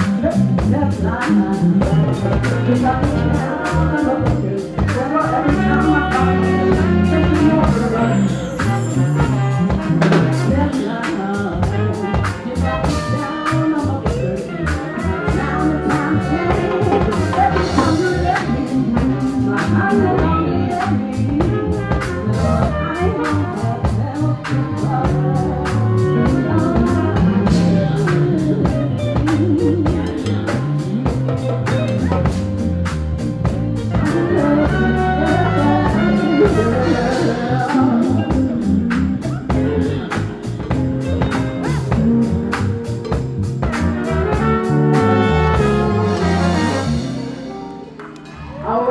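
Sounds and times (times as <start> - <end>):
drum kit beat: 0.0 - 48.4
live band playing: 0.0 - 48.9.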